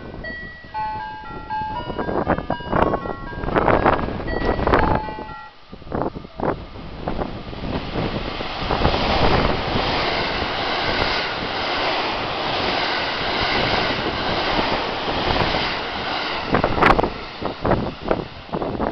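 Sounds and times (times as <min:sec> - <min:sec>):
wind buffeting microphone: 0:00.0 - 0:18.9
train wheels rushing on rail: 0:00.2 - 0:18.9.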